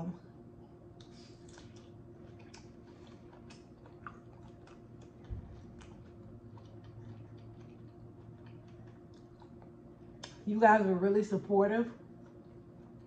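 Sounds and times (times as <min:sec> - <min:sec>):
mouth chewing food: 0:01.0 - 0:10.4, 0:12.0 - 0:13.0.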